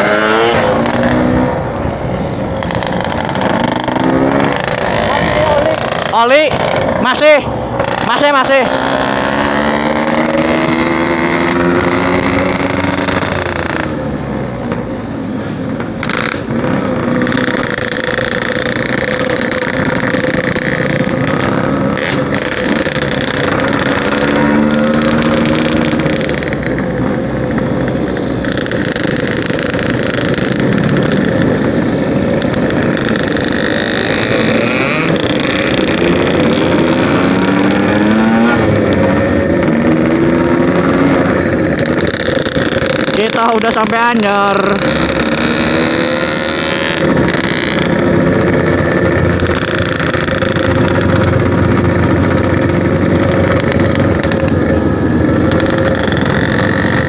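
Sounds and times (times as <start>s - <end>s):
two-stroke motorcycle engine accelerating: 0.0s - 57.0s.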